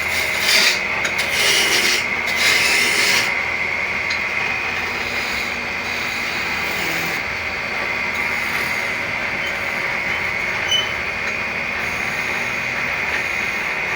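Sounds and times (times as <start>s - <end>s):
wood lathe scraping wood: 0.0s - 13.9s.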